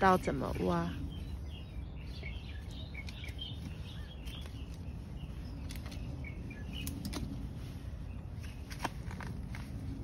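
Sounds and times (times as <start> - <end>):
low outdoor rumble: 0.0 - 10.0
small birds chirping: 0.0 - 10.0.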